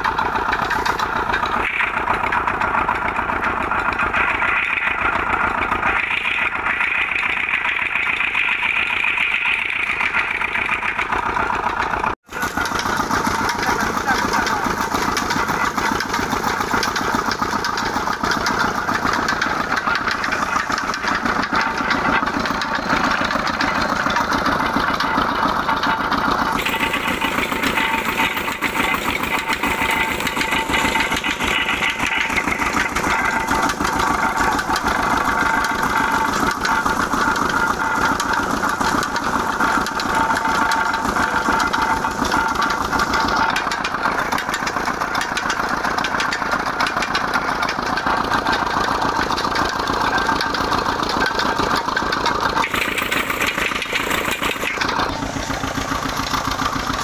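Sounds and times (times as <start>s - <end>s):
crusher rollers grinding clatter: 0.0s - 57.0s
diesel engine running: 0.0s - 57.0s.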